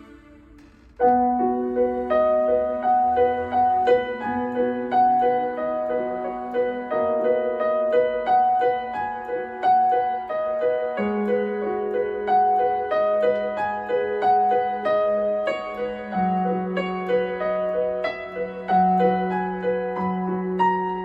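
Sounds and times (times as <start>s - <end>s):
synthesizer piano broken chords: 0.0s - 21.0s.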